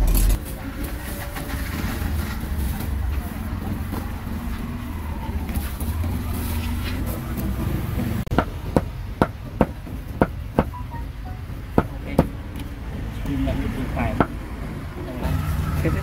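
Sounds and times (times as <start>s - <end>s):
low rumble of street traffic: 0.0s - 16.0s.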